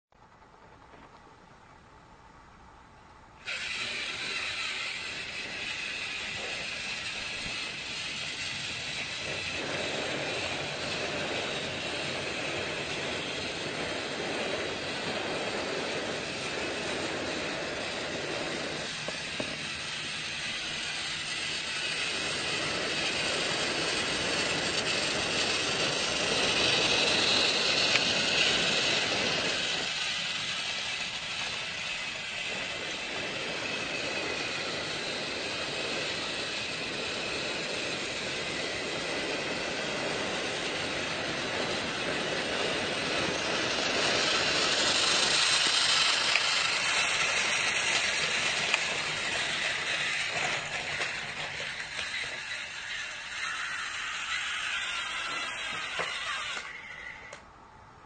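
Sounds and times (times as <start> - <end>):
train high whine: 0.2 - 58.0
train rumbling on track: 0.2 - 58.0.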